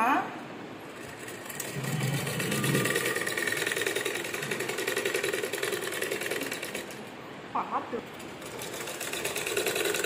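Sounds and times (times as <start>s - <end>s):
sewing machine running: 0.8s - 7.3s, 8.1s - 10.0s.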